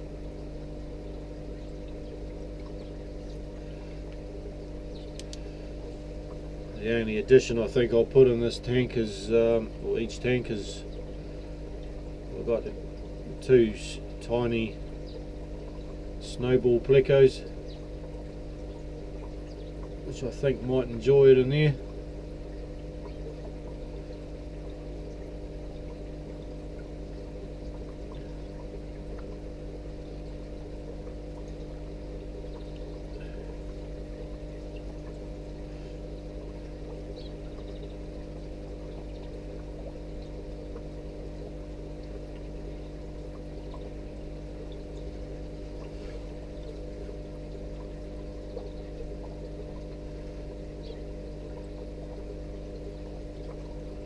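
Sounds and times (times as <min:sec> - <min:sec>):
aquarium pump hum: 0:00.0 - 0:54.0
water trickling and splashing: 0:00.0 - 0:54.0.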